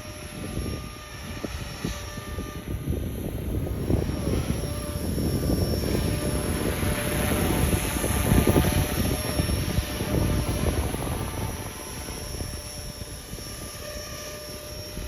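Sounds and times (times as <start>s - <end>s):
electric helicopter motor whine: 0.0s - 15.0s
wind buffeting microphone: 0.0s - 15.0s.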